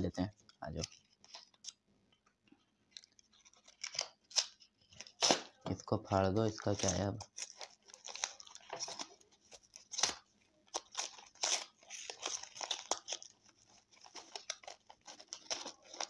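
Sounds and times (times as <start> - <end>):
cardboard tearing and crinkling: 2.9 - 16.0.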